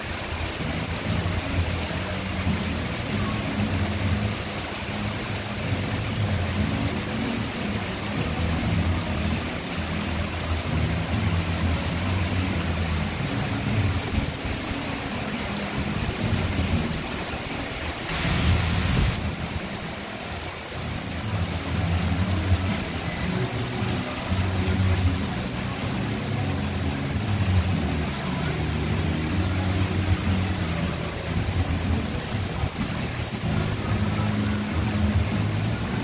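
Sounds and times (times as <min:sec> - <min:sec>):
heavy rain on wooden deck and water: 0:00.0 - 0:36.0.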